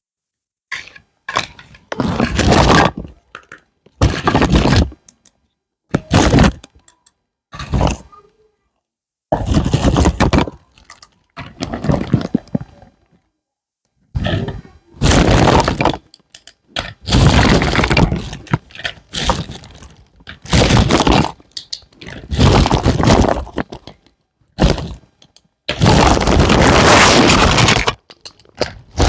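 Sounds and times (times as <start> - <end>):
plastic and cardboard crackling: 1.3 - 5.2, 5.9 - 7.0, 9.3 - 13.1, 14.2 - 29.0.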